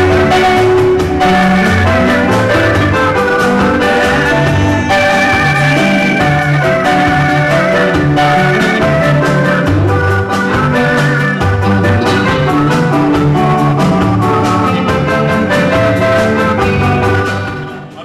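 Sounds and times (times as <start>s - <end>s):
electric bass: 0.0s - 17.9s
drum kit: 0.0s - 18.0s
keyboard playing: 0.0s - 18.0s.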